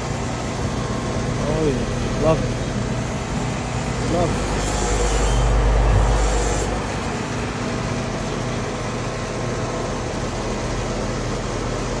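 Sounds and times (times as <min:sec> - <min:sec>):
hvac system humming: 0:00.0 - 0:12.0.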